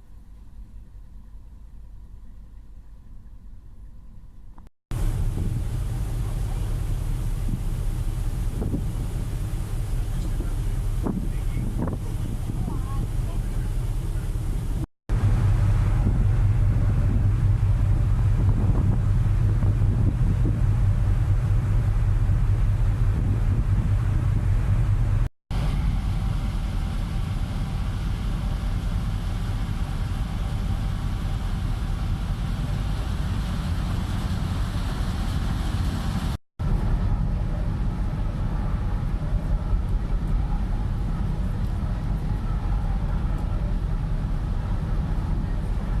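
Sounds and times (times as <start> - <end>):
faint hiss of wind and water: 0.0 - 46.0
ferry engines rumbling: 0.0 - 46.0.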